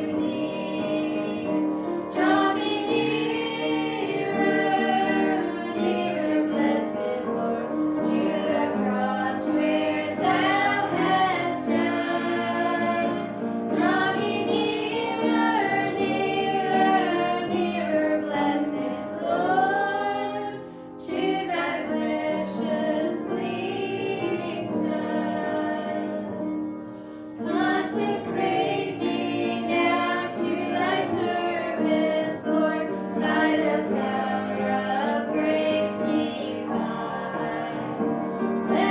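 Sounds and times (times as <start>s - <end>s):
group singing gospel song: 0.0s - 38.9s.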